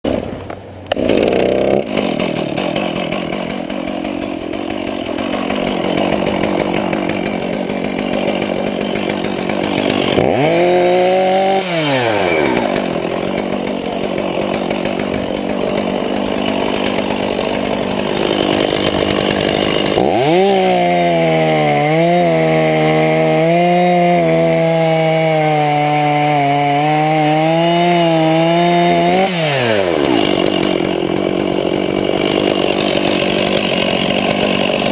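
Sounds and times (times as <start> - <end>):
chainsaw engine running: 0.1 - 34.9.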